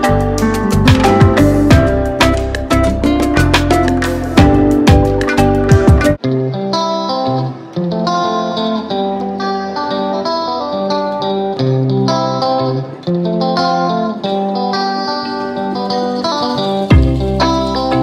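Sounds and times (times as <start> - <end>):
instrumental music with plucked guitar: 0.0 - 18.0.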